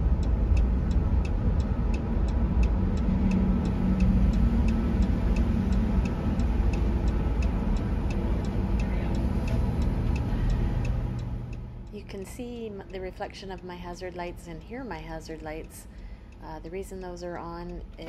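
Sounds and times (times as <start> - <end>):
vehicle rumbling: 0.0 - 18.0.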